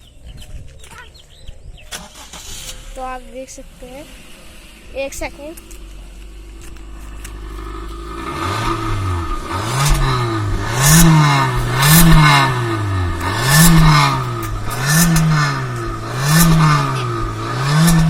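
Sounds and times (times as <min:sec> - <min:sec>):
car engine revving: 0:01.9 - 0:18.0.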